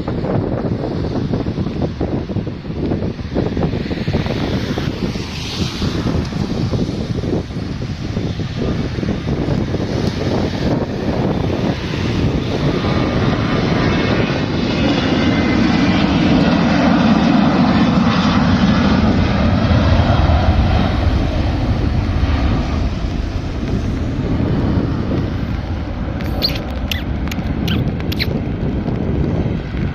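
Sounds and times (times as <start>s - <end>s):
jet engines roaring at takeoff: 0.0s - 29.9s.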